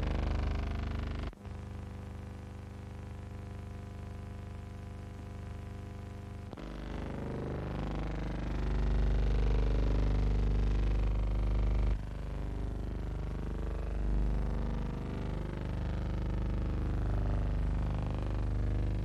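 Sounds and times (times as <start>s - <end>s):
low hum with overtones: 0.0s - 19.0s.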